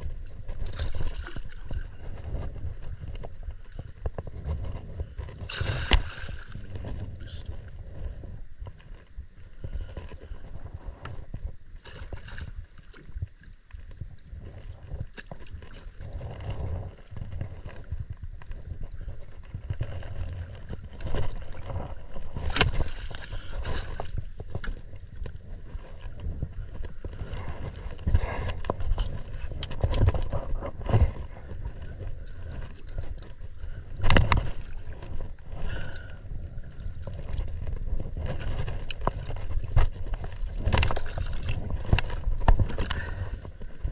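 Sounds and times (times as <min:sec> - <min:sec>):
water sloshing around kayak: 0:00.0 - 0:43.9
wind buffeting microphone: 0:00.0 - 0:43.9.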